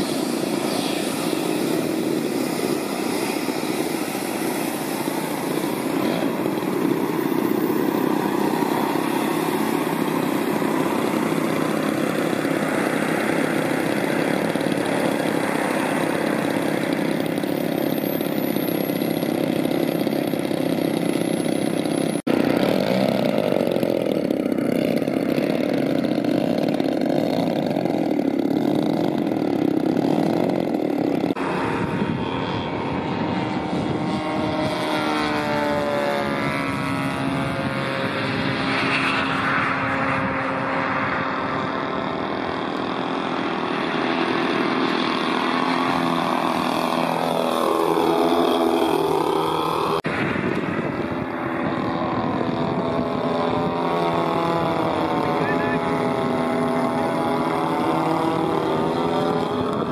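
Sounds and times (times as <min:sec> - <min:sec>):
model airplane engines running: 0:00.0 - 0:59.9.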